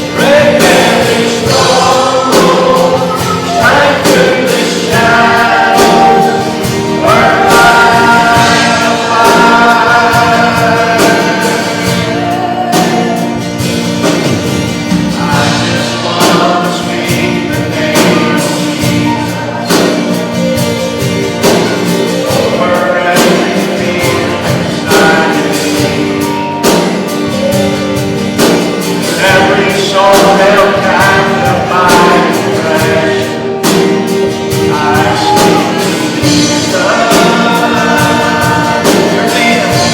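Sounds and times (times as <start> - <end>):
group singing worship song: 0.0 - 39.9
instrumental accompaniment: 0.0 - 39.9.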